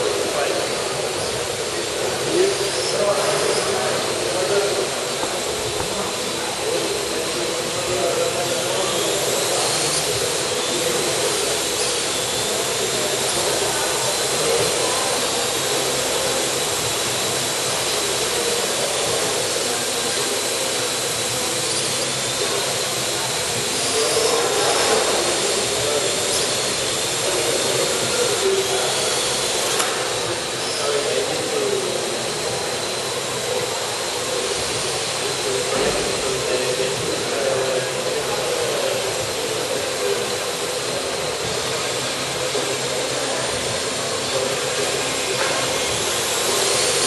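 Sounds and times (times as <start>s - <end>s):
drone propellers whirring: 0.0s - 47.0s
thin high whine: 0.0s - 47.0s.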